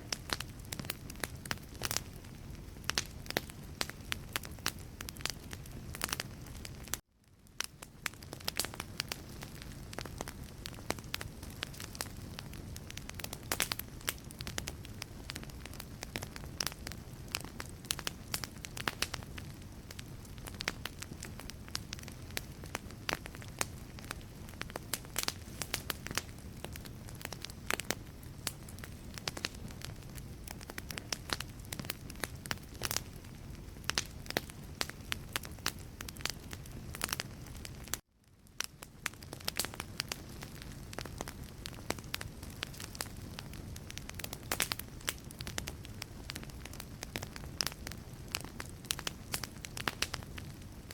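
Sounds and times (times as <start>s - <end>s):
flames low rumble: 0.0s - 50.9s
logs crackling and popping: 0.0s - 50.9s.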